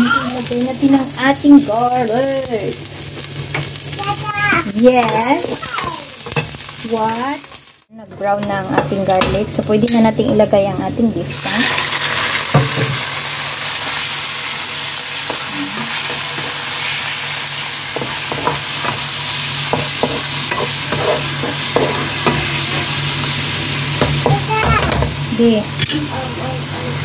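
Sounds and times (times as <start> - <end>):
meat sizzling in oil: 0.0 - 7.9, 8.5 - 27.0.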